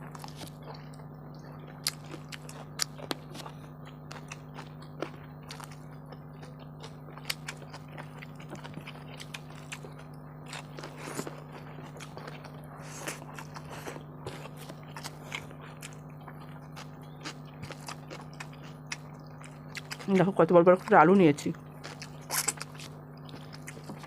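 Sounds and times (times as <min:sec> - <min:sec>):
chewing and smacking: 0:00.0 - 0:24.0
steady low hum: 0:00.0 - 0:24.0.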